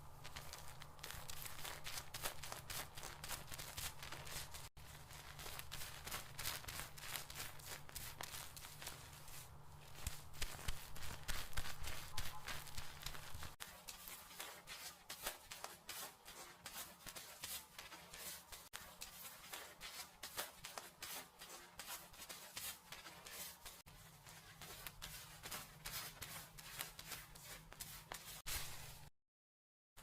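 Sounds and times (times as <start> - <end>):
fingers scratching through hair: 0.0 - 29.1.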